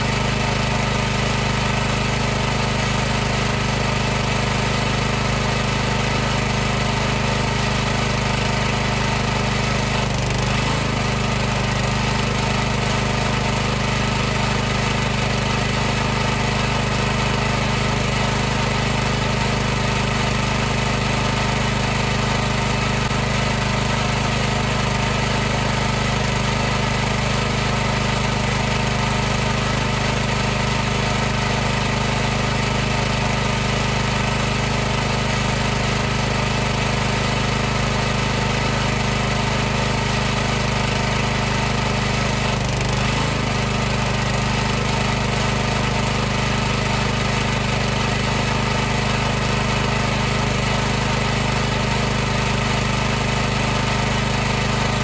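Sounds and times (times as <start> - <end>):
pressure washer running: 0.0 - 55.0.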